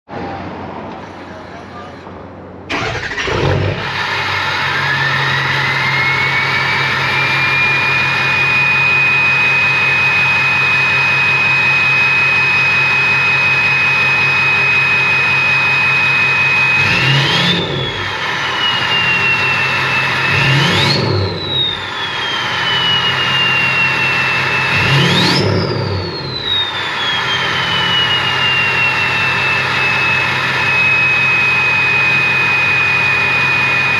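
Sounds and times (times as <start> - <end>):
diesel engine starting and idling: 0.2 - 33.9
turbocharger whistle: 2.7 - 33.9.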